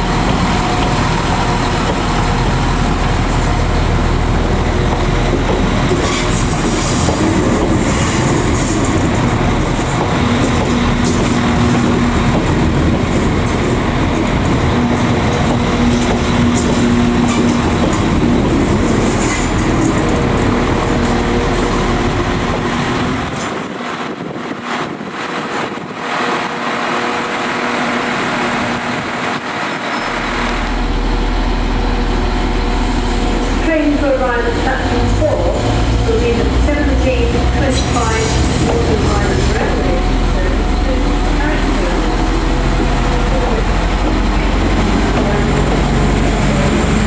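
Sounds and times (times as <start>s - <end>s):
diesel engine drone: 0.0s - 23.4s, 25.8s - 47.0s
train wheels rumbling on rails: 0.0s - 47.0s.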